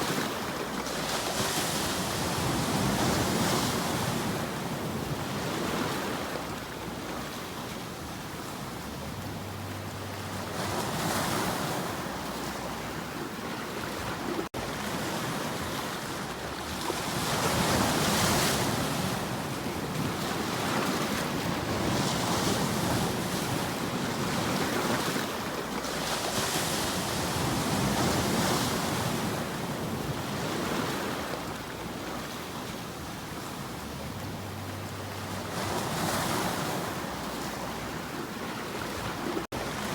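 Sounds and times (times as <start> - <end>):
waves washing in: 0.0 - 39.9
wind: 0.0 - 39.9.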